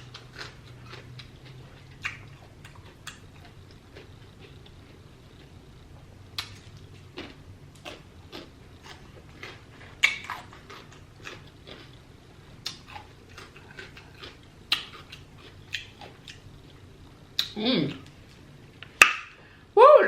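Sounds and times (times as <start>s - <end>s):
person chewing and smacking: 0.0s - 19.4s.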